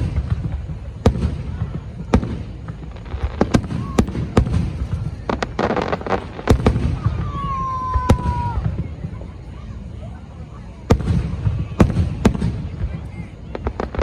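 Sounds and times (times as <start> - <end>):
fireworks bangs: 0.0 - 14.0
fireworks crackling: 0.0 - 14.0
whistling firework: 0.0 - 14.0.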